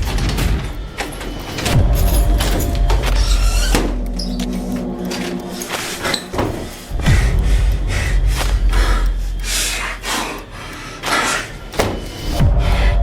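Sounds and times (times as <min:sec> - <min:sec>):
music with sliding deep bass: 0:00.0 - 0:13.0.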